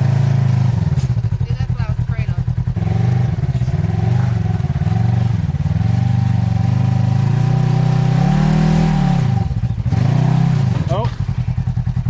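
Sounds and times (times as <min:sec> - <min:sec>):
utility vehicle engine revving: 0:00.0 - 0:12.0.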